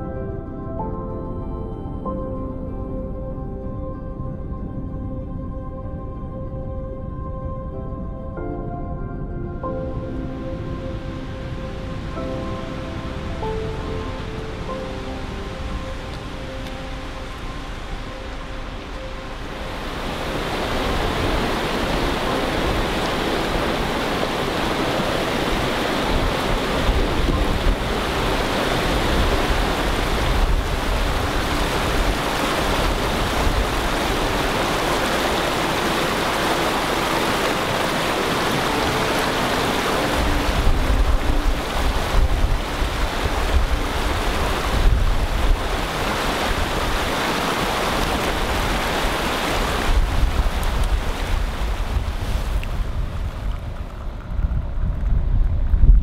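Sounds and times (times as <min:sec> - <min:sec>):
wind buffeting microphone: 0:03.6 - 0:56.0.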